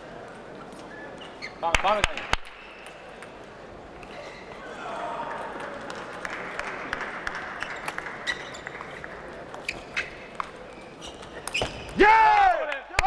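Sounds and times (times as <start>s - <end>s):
large hall background: 0.0s - 13.0s.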